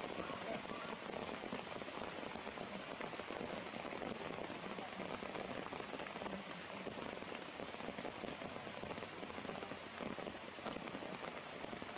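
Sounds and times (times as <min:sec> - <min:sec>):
rain on rock and leaves: 0:00.0 - 0:11.9.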